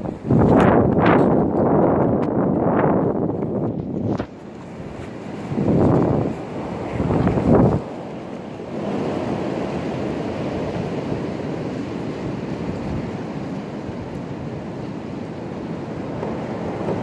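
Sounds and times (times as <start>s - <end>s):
high wind roaring through trees: 0.0s - 17.0s.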